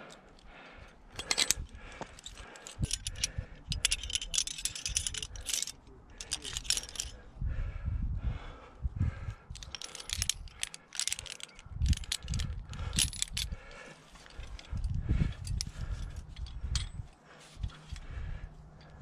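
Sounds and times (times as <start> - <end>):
carabiners clicking against metal: 0.0 - 7.2, 9.2 - 19.0.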